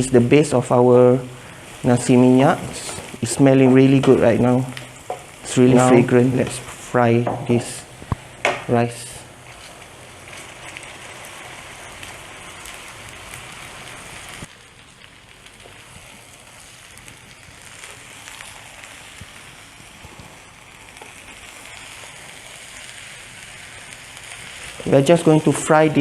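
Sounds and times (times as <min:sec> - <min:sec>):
rice sizzling in butter: 0:00.0 - 0:26.0.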